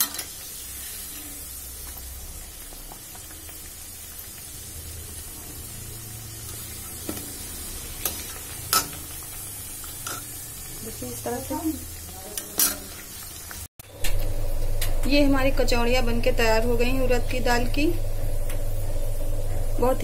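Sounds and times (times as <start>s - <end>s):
deep-frying sizzle in oil: 0.0s - 20.0s.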